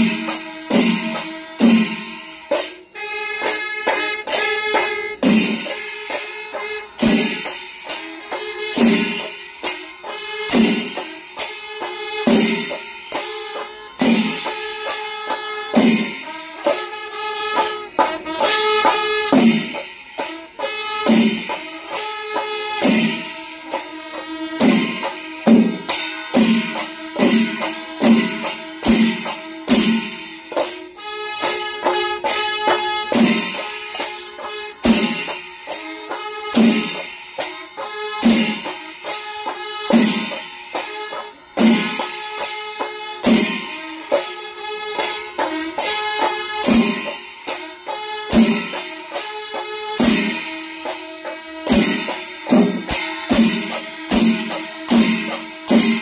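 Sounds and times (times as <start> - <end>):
drums beating: 0.0 - 56.0
hand cymbals: 0.0 - 56.0.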